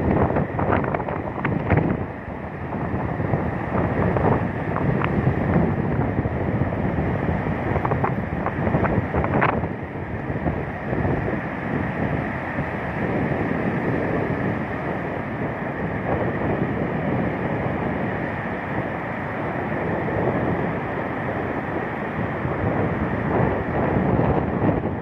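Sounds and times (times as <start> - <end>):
stormy sea surf: 0.0 - 25.0
wind buffeting microphone: 0.0 - 25.0.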